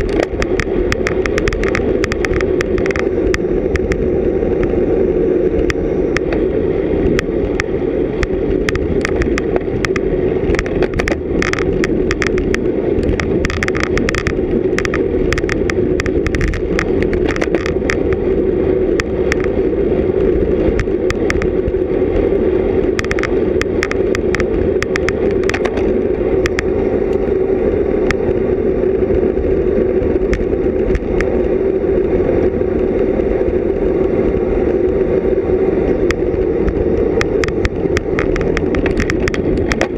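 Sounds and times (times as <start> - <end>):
bicycle clicks and ticks: 0.0 - 39.9
wind and road noise: 0.0 - 39.9.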